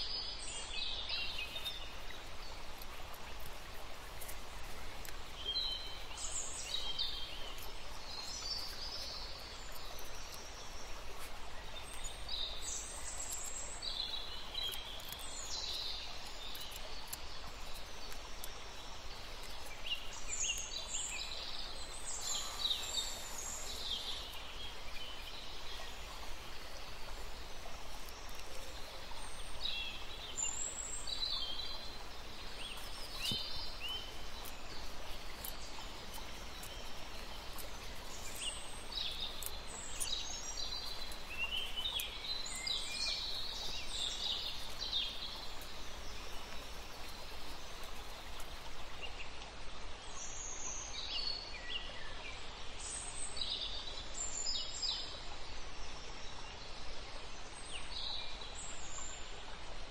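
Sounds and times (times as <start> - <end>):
faint steady hum: 1.1 - 50.0.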